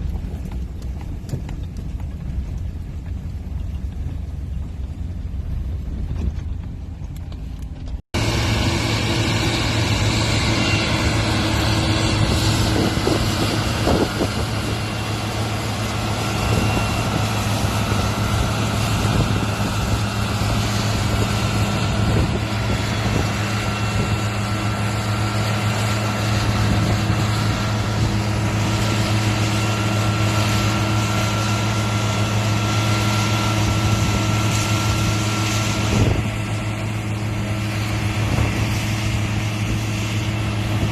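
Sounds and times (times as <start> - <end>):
farm vehicle engine humming: 0.0 - 40.9.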